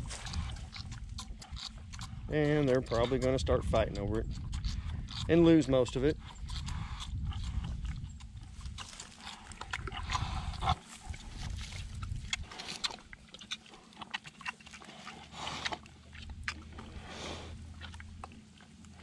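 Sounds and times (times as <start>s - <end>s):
pigs slurping water: 0.0s - 19.0s.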